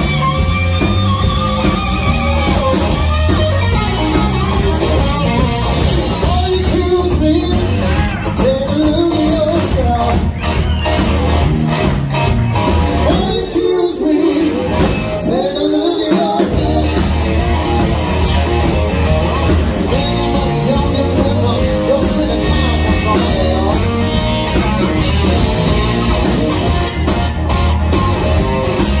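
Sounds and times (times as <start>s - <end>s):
drum kit: 0.0s - 29.0s
electric guitars: 0.0s - 29.0s.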